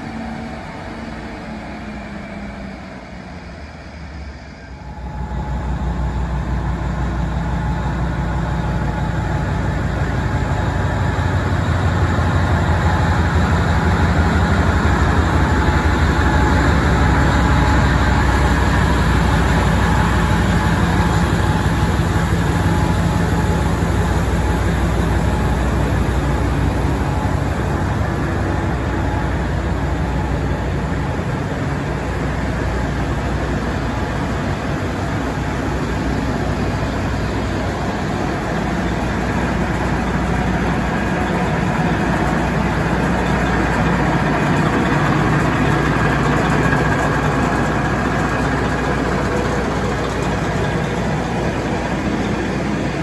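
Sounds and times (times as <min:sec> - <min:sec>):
diesel generator engine hum: 0:00.0 - 0:53.0
diesel locomotive engine running: 0:00.0 - 0:53.0.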